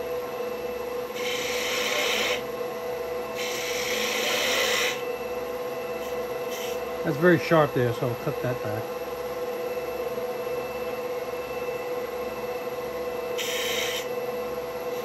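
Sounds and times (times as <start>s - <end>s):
wood lathe humming: 0.0s - 8.8s, 11.4s - 15.0s.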